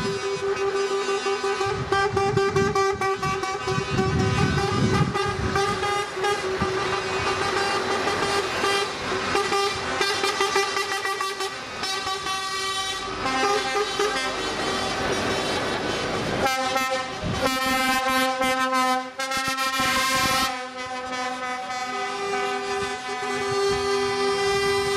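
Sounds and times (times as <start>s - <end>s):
truck air horns blowing: 0.0s - 24.9s.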